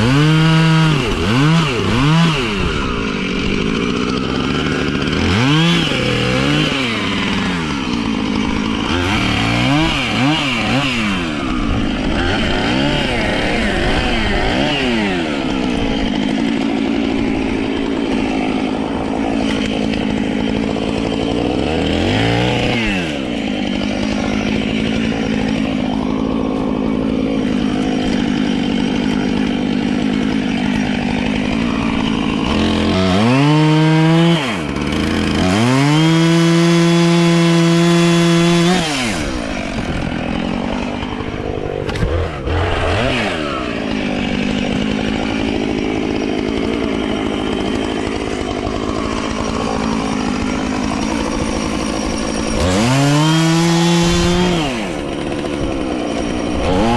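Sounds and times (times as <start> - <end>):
chainsaw cutting wood: 0.0 - 56.9
chainsaw revving freely: 0.0 - 56.9.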